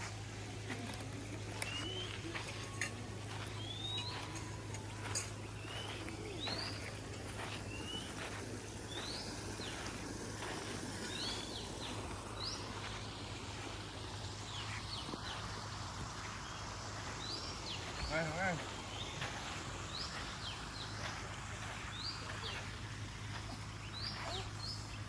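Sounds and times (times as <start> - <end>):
constant low hum: 0.0 - 25.0
steady background hiss: 0.0 - 25.0
birds whistling rising notes: 1.5 - 22.8.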